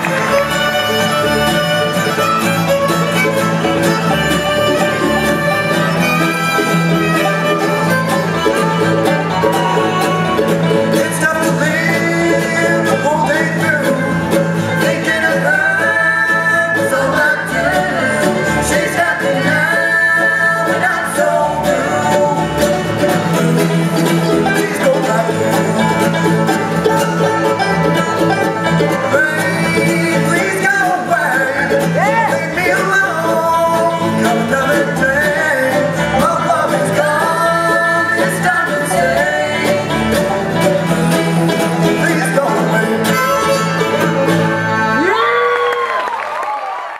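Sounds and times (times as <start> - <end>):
bluegrass band playing: 0.0 - 45.9
person singing: 0.0 - 46.0.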